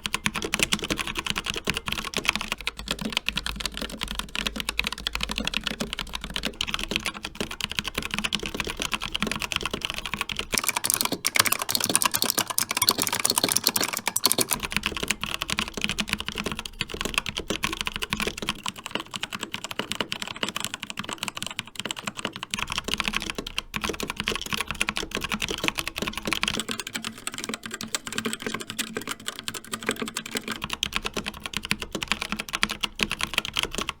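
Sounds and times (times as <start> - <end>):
typing on mechanical keyboards: 0.0 - 34.0.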